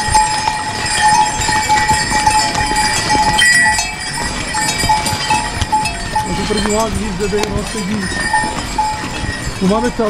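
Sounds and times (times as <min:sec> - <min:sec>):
horse bells jangling: 0:00.0 - 0:10.0.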